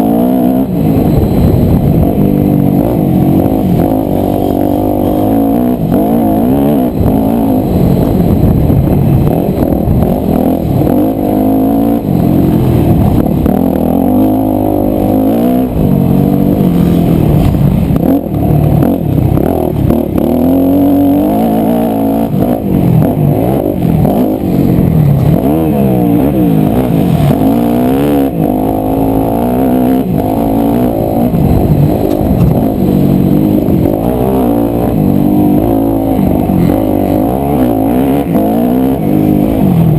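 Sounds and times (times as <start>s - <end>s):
muffled motocross engine revving: 0.0s - 39.9s.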